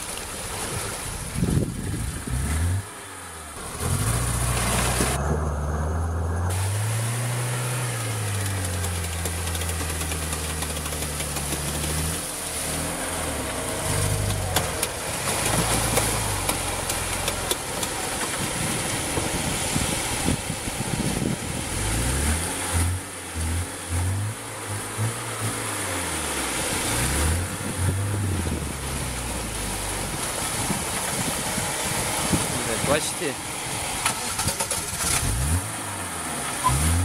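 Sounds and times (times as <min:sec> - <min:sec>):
car engine revving: 0:02.1 - 0:37.0.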